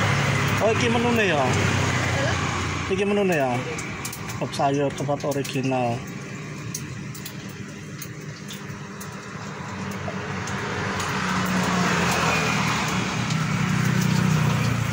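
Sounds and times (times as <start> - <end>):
traffic noise: 0.0 - 14.9
vehicle engine running: 0.0 - 14.9.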